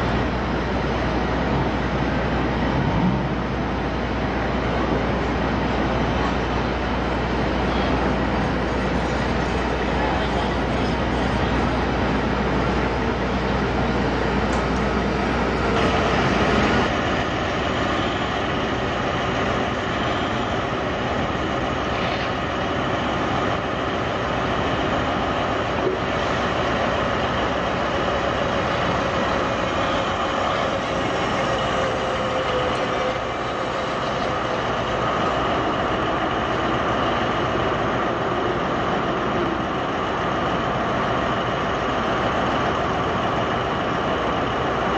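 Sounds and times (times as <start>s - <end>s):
heavy machinery running: 0.0s - 44.9s.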